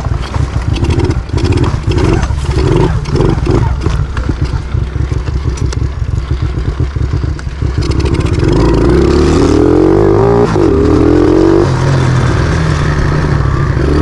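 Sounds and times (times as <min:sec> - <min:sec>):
motorbike engine revving: 0:00.0 - 0:14.0.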